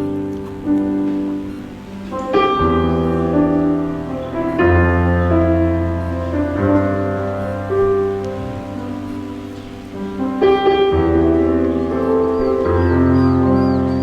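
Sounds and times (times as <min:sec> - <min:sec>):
slow piano worship music: 0:00.0 - 0:14.0.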